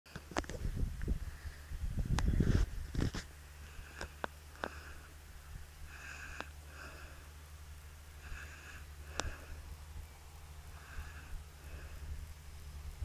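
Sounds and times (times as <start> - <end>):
distant tractor engine drone: 0.1 - 13.0.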